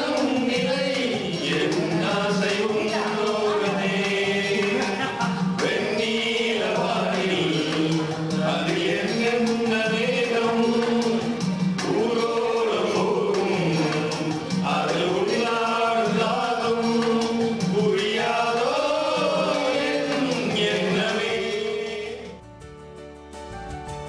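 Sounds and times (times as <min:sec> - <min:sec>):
men singing into microphone: 0:00.0 - 0:22.4.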